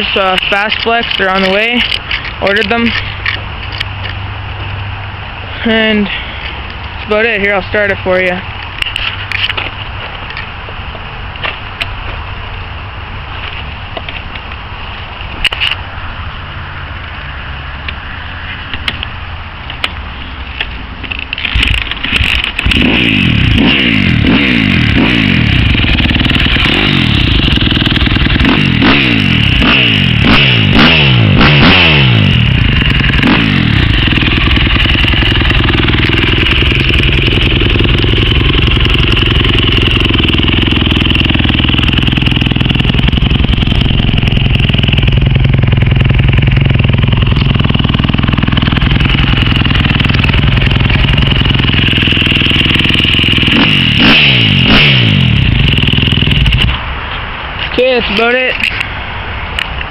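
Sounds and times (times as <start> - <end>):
motorcycle engine revving and idling: 0.0 - 58.9.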